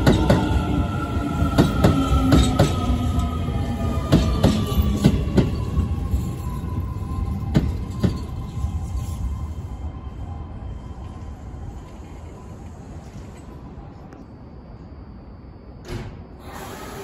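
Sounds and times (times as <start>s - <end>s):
electric train whine: 0.0s - 17.0s.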